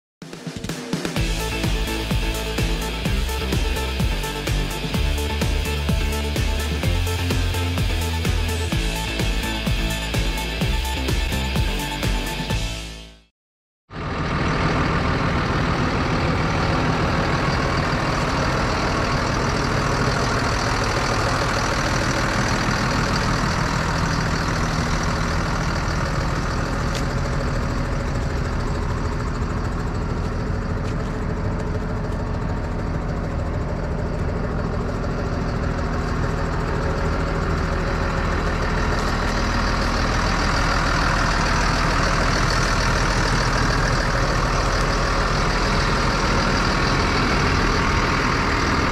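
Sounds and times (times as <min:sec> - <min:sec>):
tractor diesel engine running: 0:00.6 - 0:13.2, 0:13.9 - 0:48.9.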